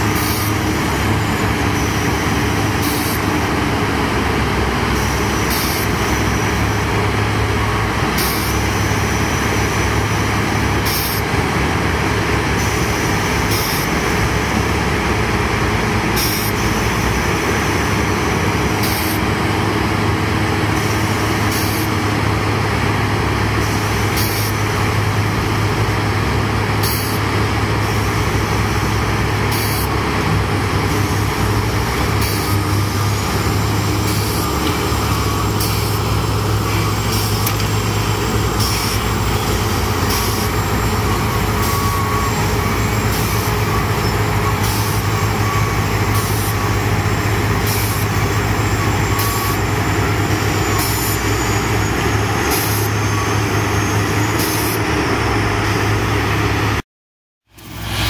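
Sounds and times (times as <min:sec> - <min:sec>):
heavy diesel engines humming: 0:00.0 - 0:56.8, 0:57.5 - 0:58.0.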